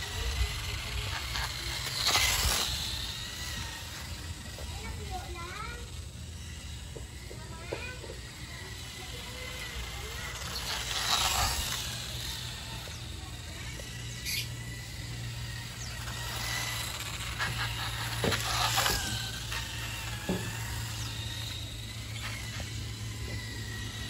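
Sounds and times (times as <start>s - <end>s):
toy motorcycle electric motor whining: 0.0s - 24.0s.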